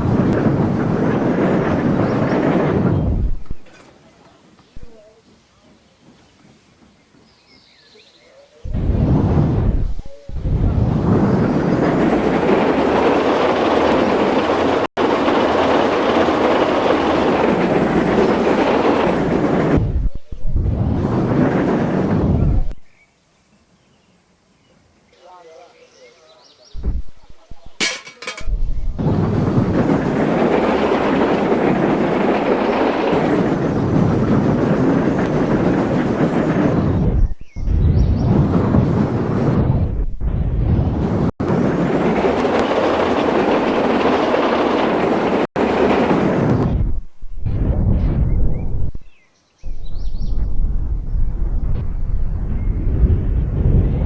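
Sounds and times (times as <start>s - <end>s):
train rushing and rumbling: 0.0s - 8.0s, 8.7s - 22.9s, 26.8s - 54.0s.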